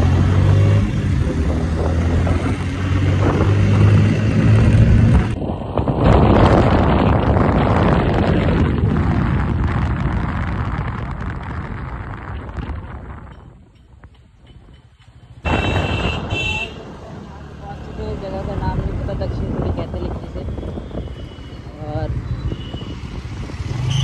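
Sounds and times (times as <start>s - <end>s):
wind rushing over microphone: 0.0s - 14.8s, 15.4s - 24.0s
road noise: 0.0s - 24.0s.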